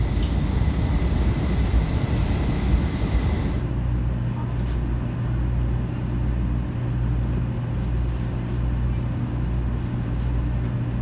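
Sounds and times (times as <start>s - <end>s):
train cabin hum and rumble: 0.0s - 11.0s.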